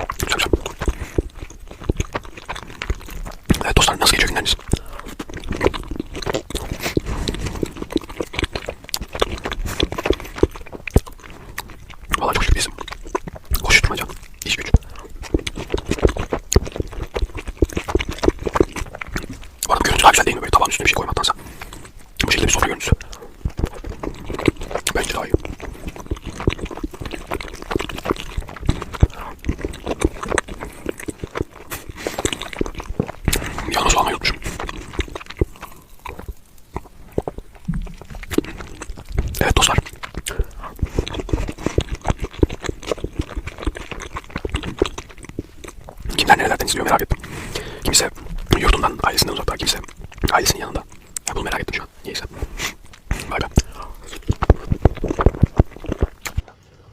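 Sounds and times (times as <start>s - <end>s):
mouth chewing clicks and smacks: 0.0s - 56.7s.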